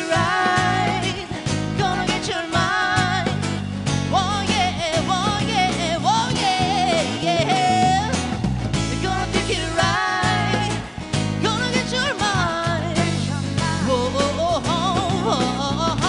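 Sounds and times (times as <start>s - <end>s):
band playing guitar and rhythm: 0.0s - 16.0s
person singing lead melody: 0.0s - 16.0s.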